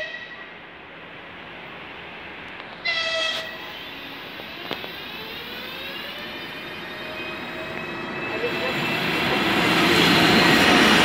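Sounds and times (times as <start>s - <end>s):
freight train noise: 0.0s - 11.0s.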